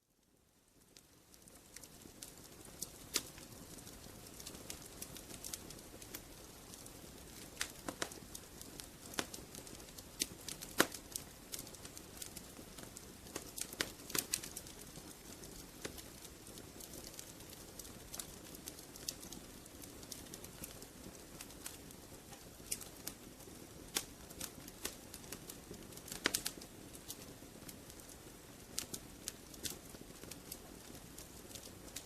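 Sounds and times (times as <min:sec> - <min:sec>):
wood fire crackling: 0:00.2 - 0:32.0.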